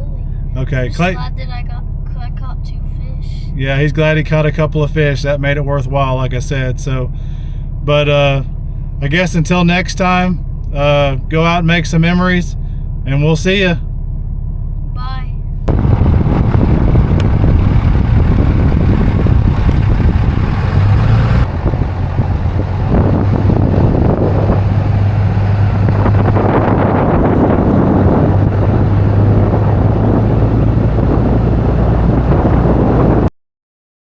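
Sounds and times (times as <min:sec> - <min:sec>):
road and wind noise: 0:00.0 - 0:33.3
truck engine hum: 0:00.0 - 0:33.3.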